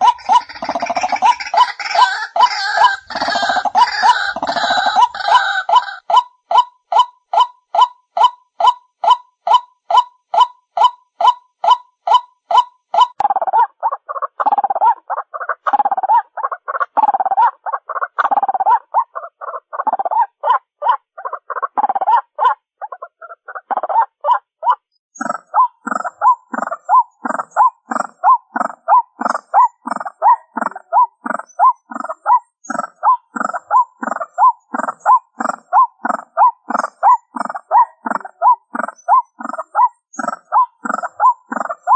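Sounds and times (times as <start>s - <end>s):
waterhen calling: 0.0s - 20.3s, 24.7s - 41.9s.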